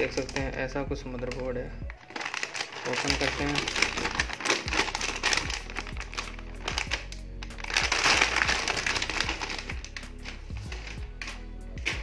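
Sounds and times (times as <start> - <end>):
plastic bag crinkling: 0.0 - 0.5, 1.2 - 12.0
background music: 0.0 - 12.0.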